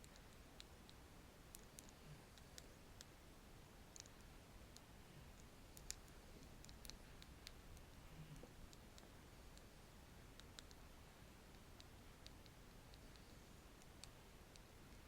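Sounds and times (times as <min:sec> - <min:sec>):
paint brush clicks and ticks: 0:00.0 - 0:03.2, 0:03.8 - 0:15.0.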